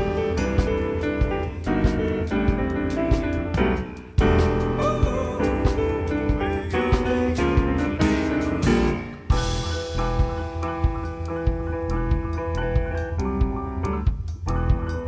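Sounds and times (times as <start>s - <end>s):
jazz piano trio playing: 0.0s - 15.0s.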